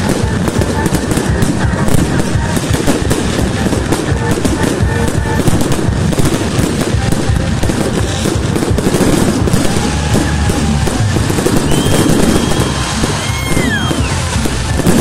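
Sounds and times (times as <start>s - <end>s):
fireworks bangs and crackling: 0.0s - 15.0s
music playing: 0.0s - 15.0s.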